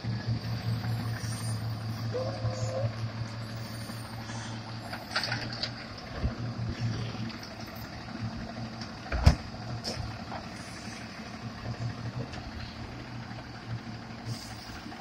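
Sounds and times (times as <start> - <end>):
garbage truck idling: 0.0 - 15.0.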